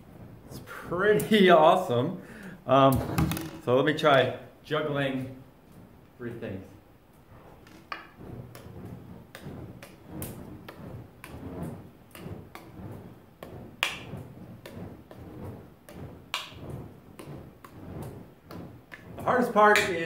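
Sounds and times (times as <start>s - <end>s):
flame whooshing through air: 0.0s - 20.0s.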